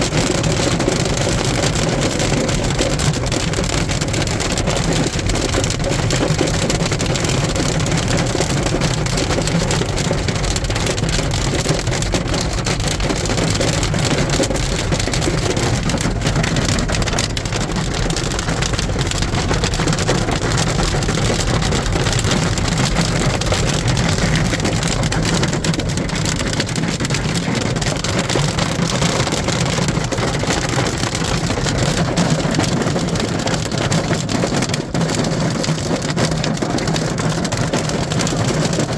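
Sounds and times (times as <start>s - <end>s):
hail and heavy rain pelting: 0.0s - 38.9s.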